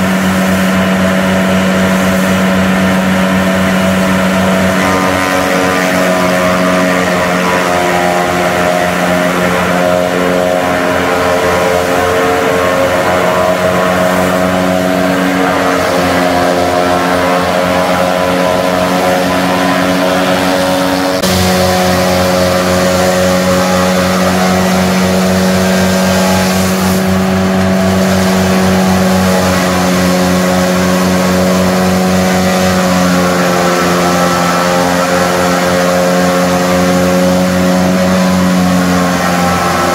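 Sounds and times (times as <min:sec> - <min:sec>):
forage chopper chopping grass: 0:00.0 - 0:39.9
tractor diesel engine running: 0:00.0 - 0:39.9.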